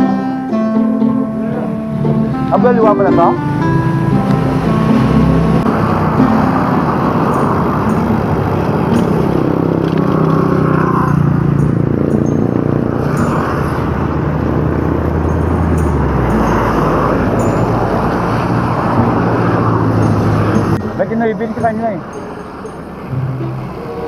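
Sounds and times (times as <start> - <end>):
passing car and motorcycle engines: 0.0 - 24.0
wind and road noise: 1.1 - 24.0.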